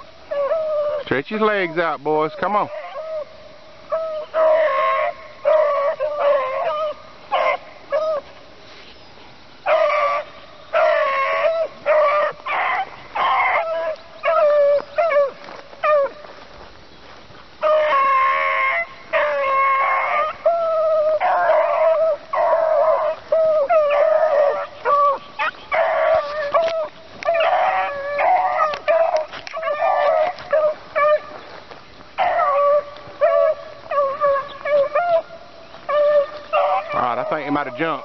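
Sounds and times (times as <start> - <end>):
beagles baying: 0.0 - 38.0.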